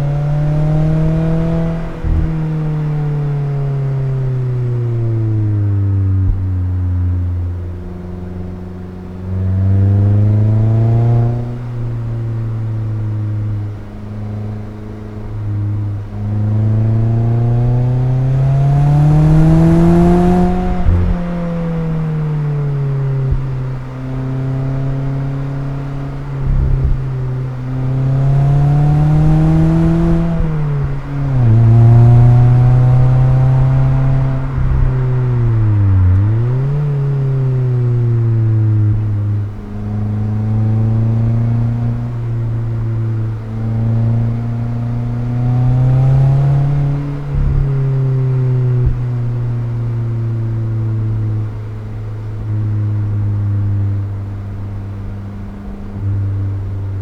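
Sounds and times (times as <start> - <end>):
car engine and exhaust accelerating: 0.0 - 57.0.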